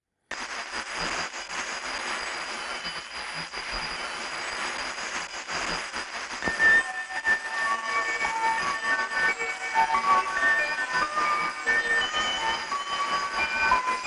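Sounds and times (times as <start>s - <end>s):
radio interval signal tones: 0.3s - 14.0s
shortwave static hiss: 0.3s - 14.0s
faint steady tones: 0.4s - 14.0s.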